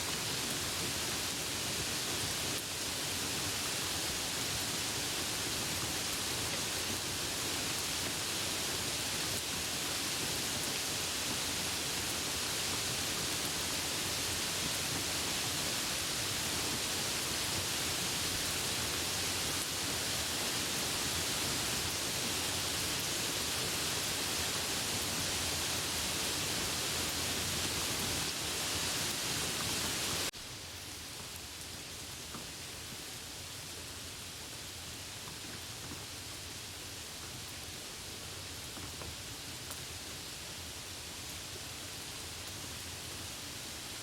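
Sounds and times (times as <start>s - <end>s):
rain falling: 0.0s - 44.0s.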